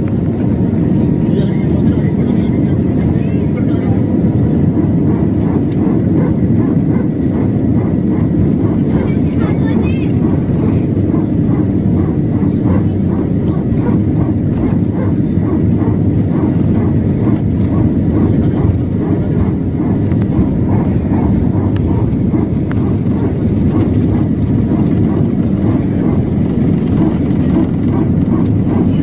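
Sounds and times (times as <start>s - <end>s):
jet engines deep rumble: 0.0s - 29.0s.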